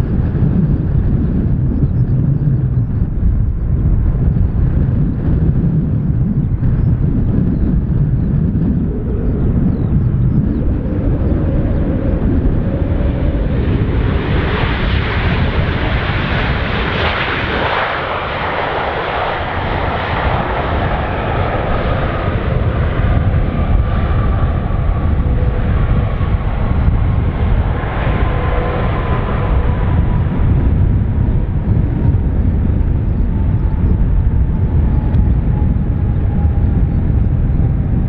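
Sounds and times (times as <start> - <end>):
jet engines roaring: 0.0 - 38.0
low rumble: 0.0 - 38.0.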